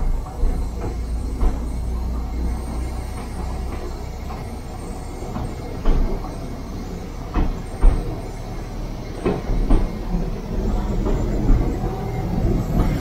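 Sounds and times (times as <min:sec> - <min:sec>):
rail car engine and wheels rumbling: 0:00.0 - 0:13.0
wheels knocking on rails: 0:00.0 - 0:13.0.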